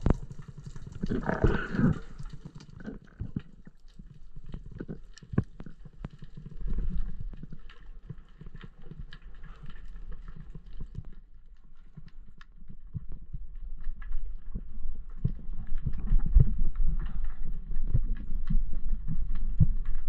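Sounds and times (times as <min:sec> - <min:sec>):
low underwater rumble: 0:00.0 - 0:20.0
underwater clicks and crackles: 0:00.0 - 0:20.0.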